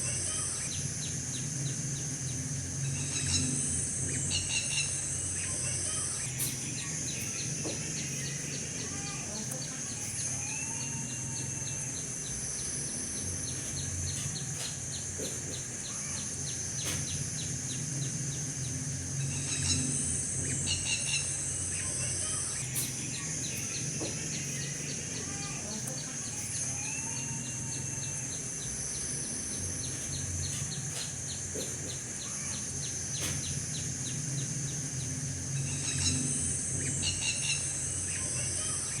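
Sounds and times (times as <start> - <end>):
high insect drone: 0.0 - 39.0.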